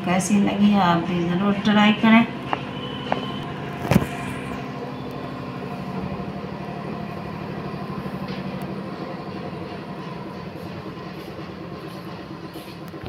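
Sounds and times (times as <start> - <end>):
pulsing machine hum: 0.0 - 13.0.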